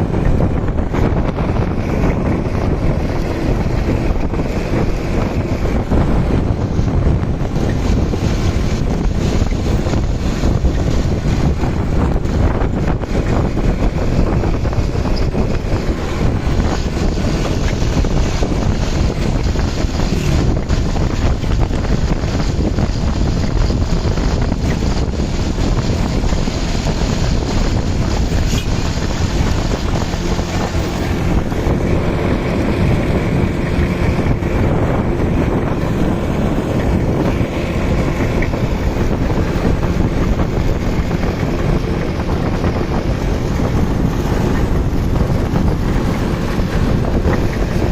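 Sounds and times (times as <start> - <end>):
motorbike engine running: 0.0 - 47.9
wind buffeting microphone: 0.0 - 47.9.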